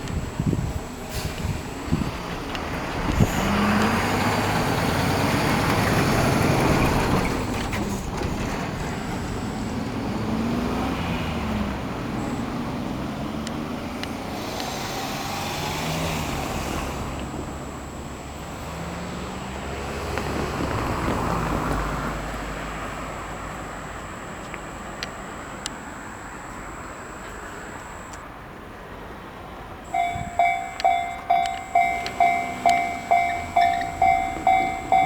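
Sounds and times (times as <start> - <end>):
vehicle engines passing: 0.2 - 35.0.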